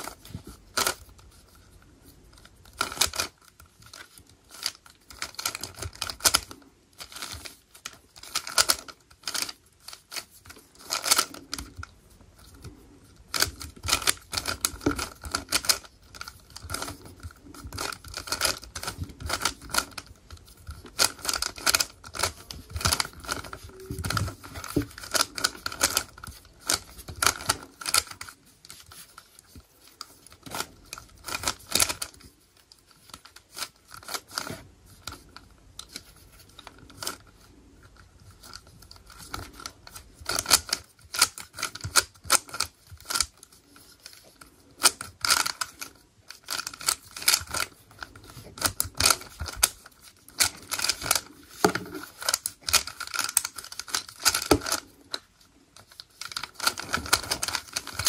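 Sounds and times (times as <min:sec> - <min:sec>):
puzzle cube clicking: 0:00.0 - 0:01.6, 0:02.3 - 0:58.0.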